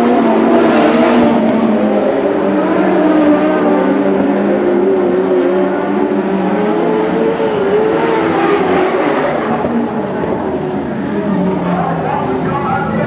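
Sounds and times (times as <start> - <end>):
racing engines revving: 0.0 - 13.0.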